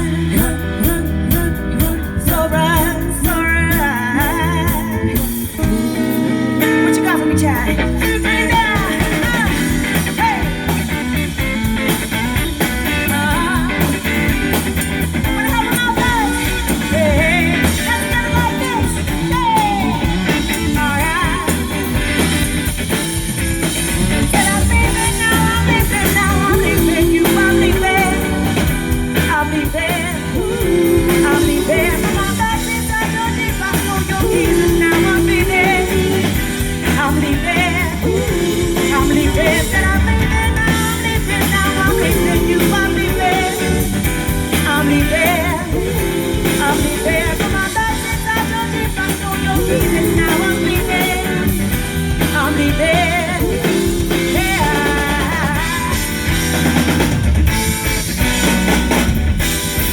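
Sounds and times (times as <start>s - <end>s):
person singing: 0.0s - 10.9s, 15.2s - 22.3s, 24.3s - 56.5s
rock and roll band playing: 0.0s - 59.9s.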